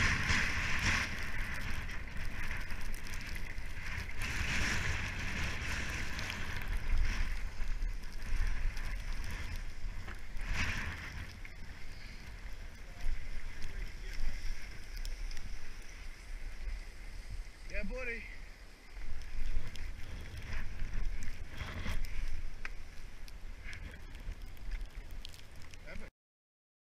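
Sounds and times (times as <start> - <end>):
skis hissing over snow: 0.0 - 26.0
wind rumbling on microphone: 0.0 - 26.1.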